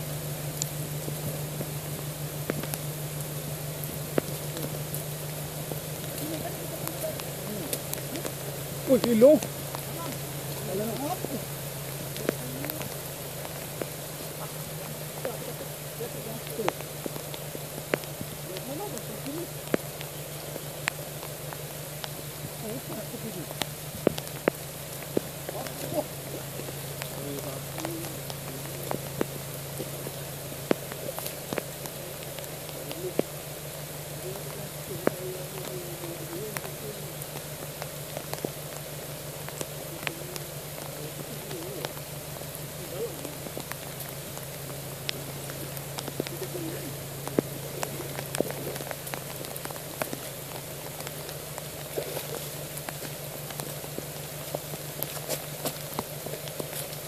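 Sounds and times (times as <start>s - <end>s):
raindrop taps: 0.0s - 57.0s
steady low hum: 0.0s - 57.0s
steady rain falling: 0.0s - 57.0s.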